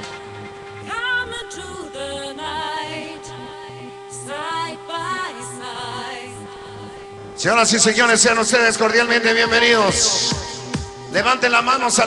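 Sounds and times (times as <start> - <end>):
music over sound system: 0.0 - 12.0.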